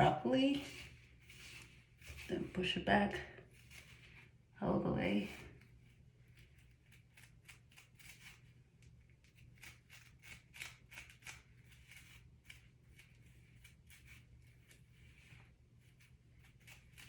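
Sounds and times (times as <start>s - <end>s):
hairbrush brushing hair: 0.0s - 17.0s.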